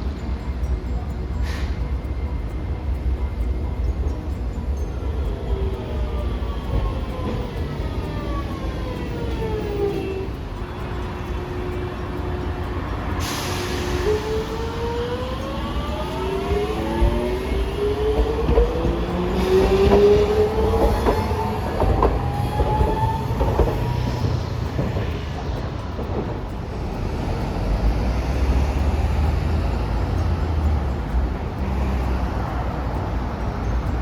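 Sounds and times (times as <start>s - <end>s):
streetcar electric motor whine: 0.0s - 34.0s
wheels clicking on rail joints: 0.0s - 34.0s.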